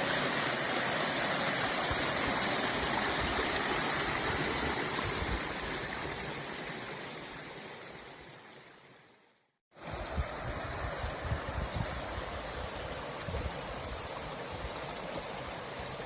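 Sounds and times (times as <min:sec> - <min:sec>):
river water rushing: 0:00.0 - 0:09.2, 0:09.8 - 0:16.0.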